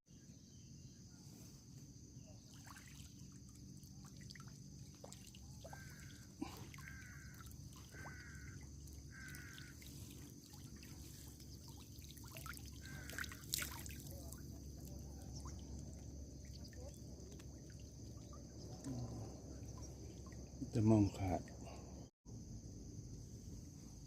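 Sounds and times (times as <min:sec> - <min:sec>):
high insect drone: 0:00.4 - 0:24.0
water trickling and dripping: 0:02.4 - 0:21.9.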